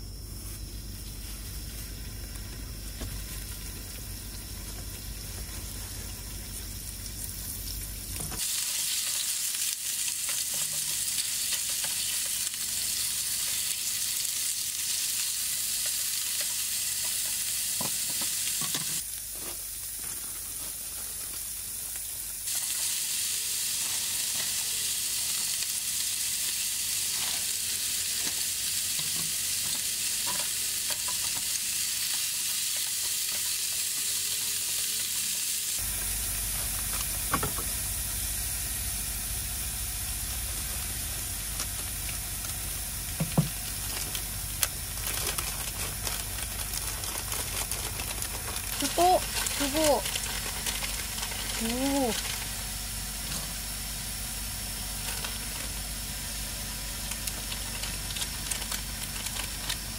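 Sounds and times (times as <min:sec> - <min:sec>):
meat sizzling in a frying pan: 0:01.6 - 0:59.9.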